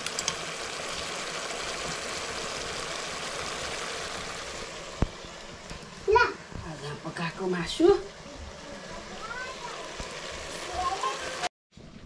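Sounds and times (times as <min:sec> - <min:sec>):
meat sizzling in a wok: 0:00.0 - 0:11.5.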